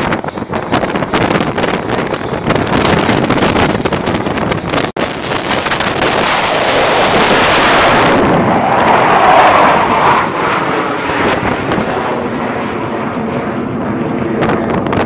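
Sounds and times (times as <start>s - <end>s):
jet planes roaring overhead: 0.0s - 15.0s
wind buffeting microphone: 0.0s - 15.0s.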